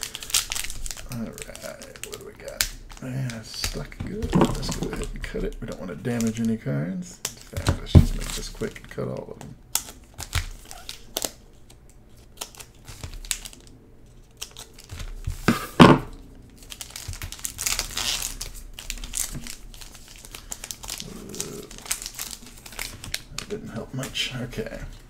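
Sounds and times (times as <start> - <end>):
foil wrappers crinkling: 0.0 - 6.6, 7.2 - 25.0.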